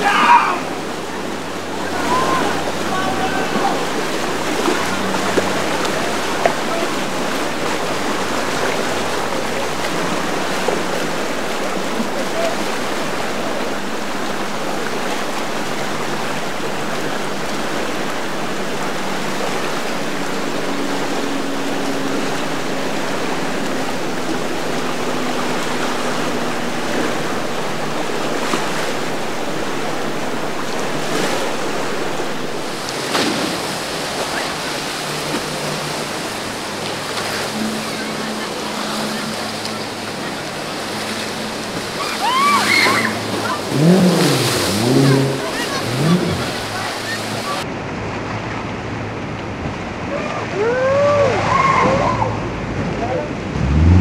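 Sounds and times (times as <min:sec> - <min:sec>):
boat engines humming: 0:00.0 - 0:54.0
waves and rushing water: 0:00.0 - 0:54.0.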